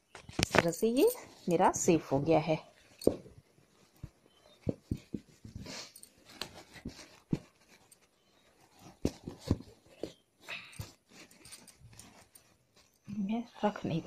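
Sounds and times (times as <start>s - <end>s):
fabric rustling: 0.0s - 14.0s.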